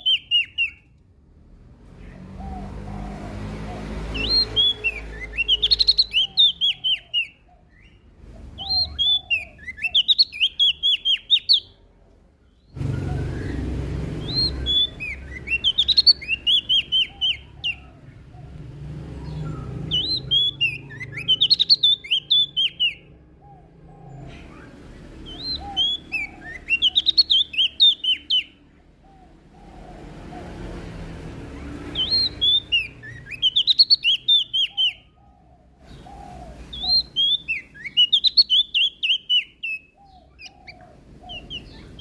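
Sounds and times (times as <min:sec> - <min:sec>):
leaf warbler chirping: 0:00.0 - 0:42.0.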